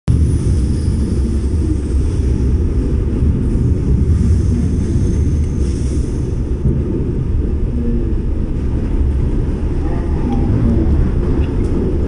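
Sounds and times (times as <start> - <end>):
train rumbling along track: 0.1 - 12.0.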